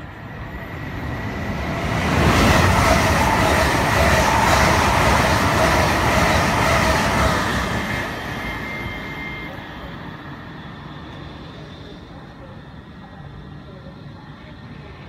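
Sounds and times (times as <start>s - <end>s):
train wheels rushing on rail: 0.0s - 12.5s
train whine: 0.0s - 15.0s.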